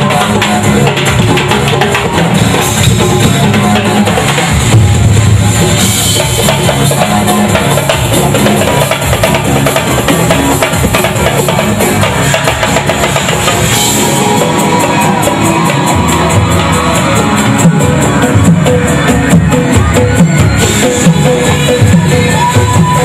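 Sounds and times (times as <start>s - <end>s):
percussion band drumming: 0.0s - 23.0s.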